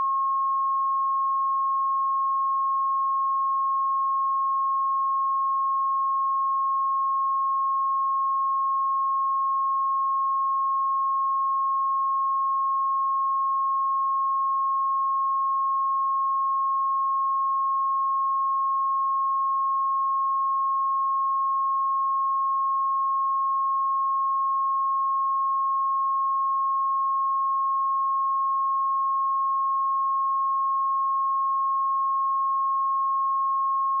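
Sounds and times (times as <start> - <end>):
sine wave test tone: 0.0 - 34.0.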